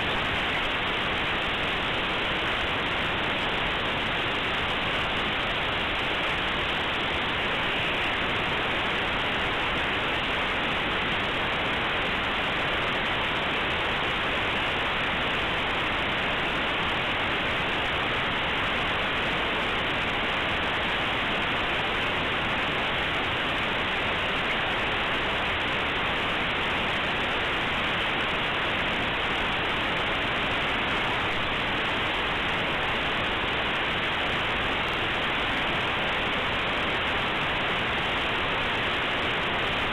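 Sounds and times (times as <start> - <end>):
static-like noise: 0.0 - 39.9.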